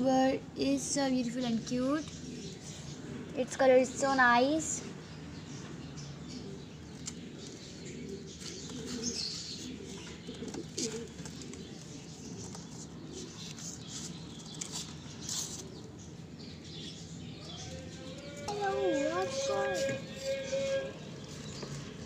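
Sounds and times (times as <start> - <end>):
soft bird calls: 1.3 - 22.0.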